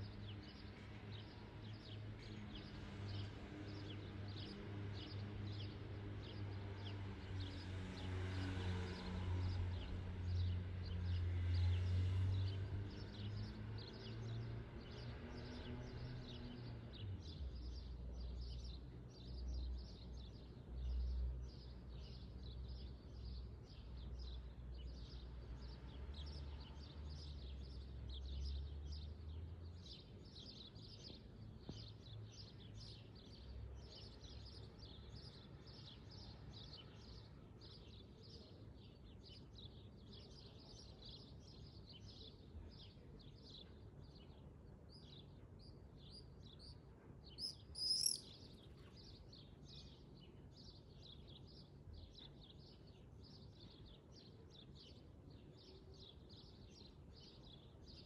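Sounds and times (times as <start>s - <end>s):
small birds chirping: 9.4s - 58.0s.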